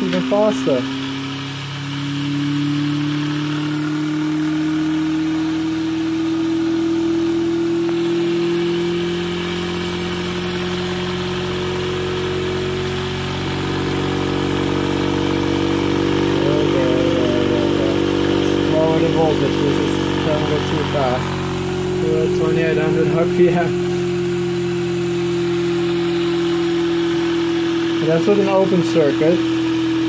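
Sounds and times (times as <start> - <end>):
electric motor humming: 0.0 - 30.0.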